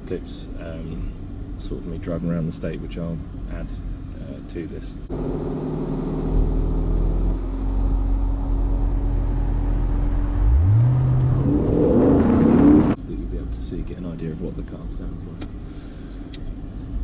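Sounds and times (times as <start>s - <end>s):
car engine and exhaust: 0.0s - 17.0s.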